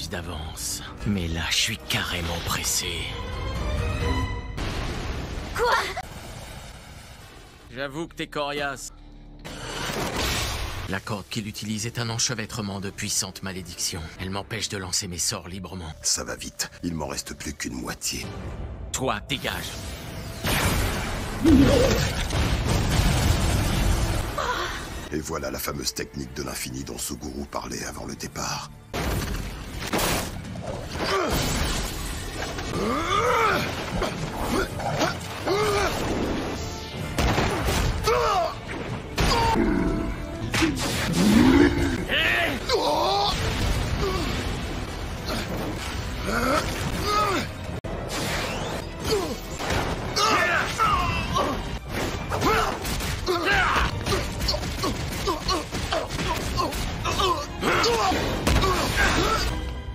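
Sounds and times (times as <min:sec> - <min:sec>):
music: 0:00.0 - 0:59.9.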